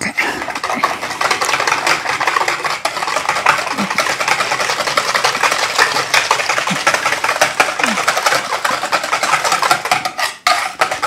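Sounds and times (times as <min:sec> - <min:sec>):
whisk beating in a bowl: 0:00.2 - 0:11.0.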